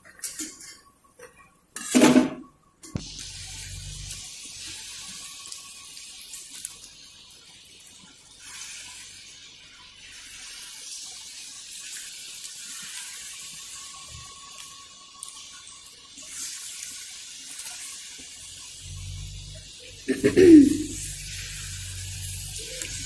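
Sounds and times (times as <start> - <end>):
batter sizzling in hot oil: 2.8 - 23.0.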